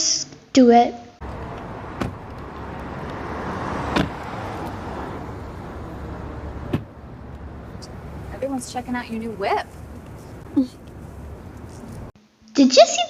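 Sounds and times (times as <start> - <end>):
car engine running: 1.2 - 12.2
road noise: 1.2 - 12.2.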